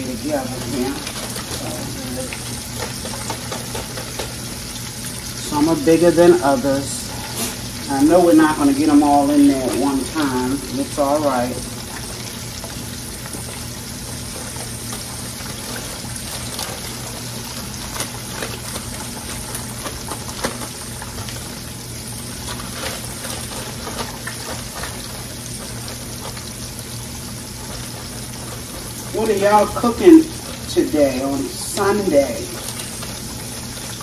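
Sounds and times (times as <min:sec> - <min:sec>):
chicken wings frying in oil: 0:00.0 - 0:34.0
oil popping and crackling: 0:00.0 - 0:34.0.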